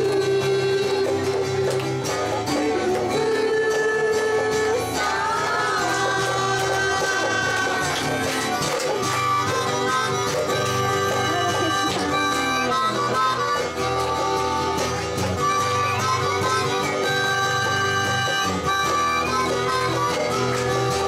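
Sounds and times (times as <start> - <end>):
acoustic guitar: 0.0 - 21.0
harmonica melody: 0.0 - 21.0.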